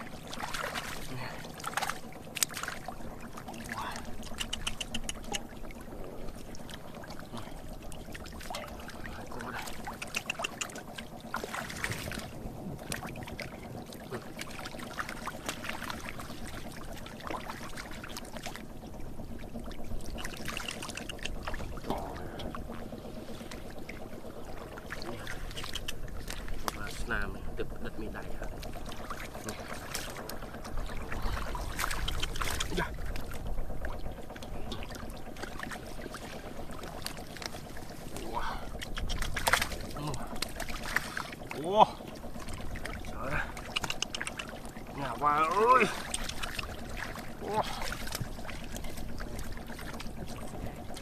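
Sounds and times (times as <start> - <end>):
steady low hum: 0.0 - 51.0
water splashing and sloshing: 0.0 - 51.0.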